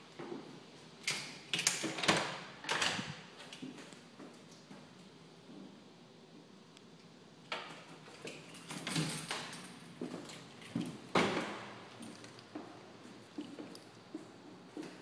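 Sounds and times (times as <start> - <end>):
knocks and clunks in a room: 0.0 - 6.5, 7.5 - 15.0.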